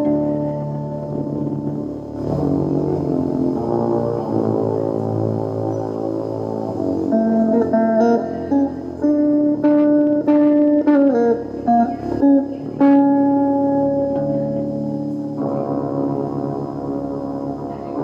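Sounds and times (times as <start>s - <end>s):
low sustained tone: 0.0s - 18.0s
plucked guitar notes: 0.0s - 18.0s.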